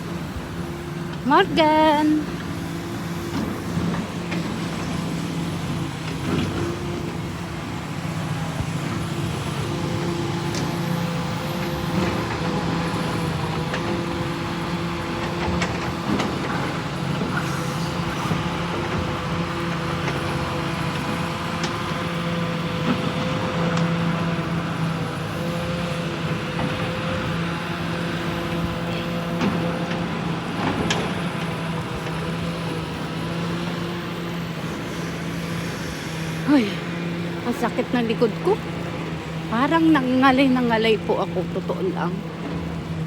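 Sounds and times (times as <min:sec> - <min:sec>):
diesel engine running: 0:00.0 - 0:43.0
street noise: 0:00.0 - 0:43.0.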